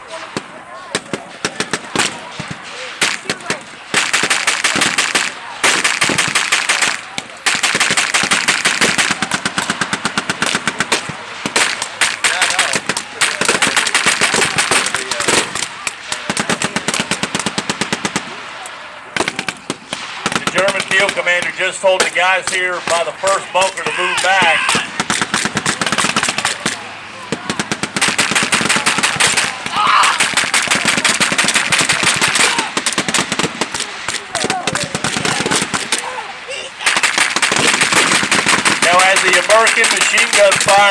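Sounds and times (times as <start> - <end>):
machine guns firing bursts: 0.1 - 36.2, 36.8 - 40.9.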